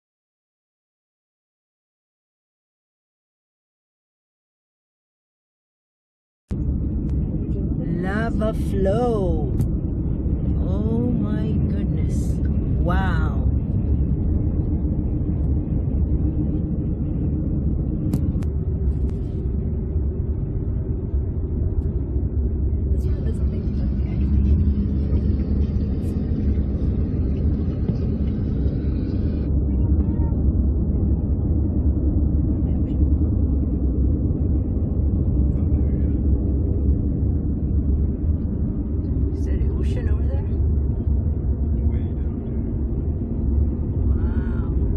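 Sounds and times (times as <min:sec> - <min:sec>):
car road and engine rumble: 0:06.5 - 0:44.9.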